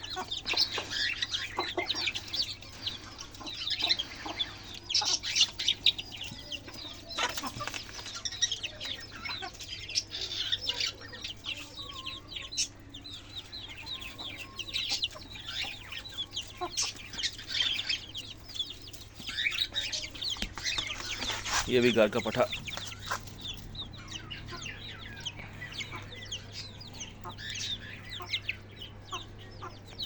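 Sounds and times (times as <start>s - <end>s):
chicks peeping: 0.0s - 30.0s
hens clucking: 0.0s - 30.0s.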